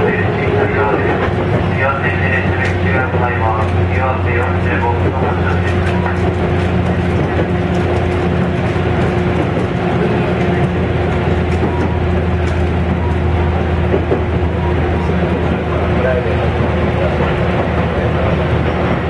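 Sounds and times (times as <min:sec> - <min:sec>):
running gear whine: 0:00.0 - 0:19.0
train wheels rumbling on rail: 0:00.0 - 0:19.0.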